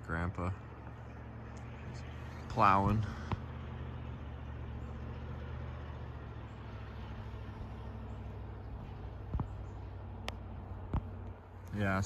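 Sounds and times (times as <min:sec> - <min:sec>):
snow plow engine humming: 0:00.0 - 0:12.0.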